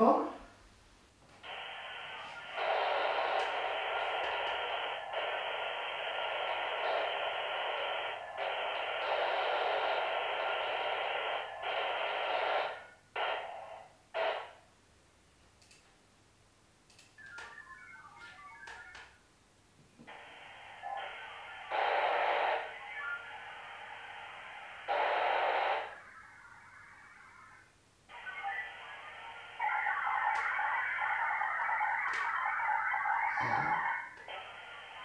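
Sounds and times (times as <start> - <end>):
modem data signal tones: 1.4 - 14.6, 17.0 - 19.2, 20.1 - 35.0.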